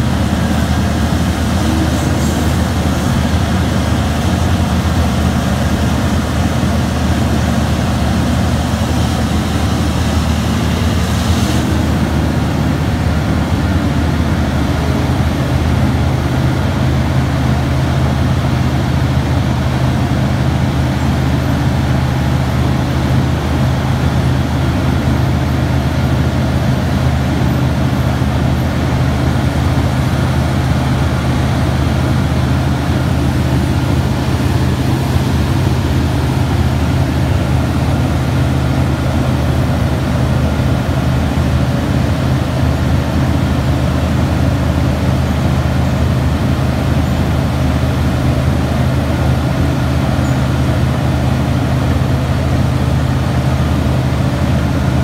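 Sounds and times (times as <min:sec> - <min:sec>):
heavy engine drone: 0:00.0 - 0:55.0.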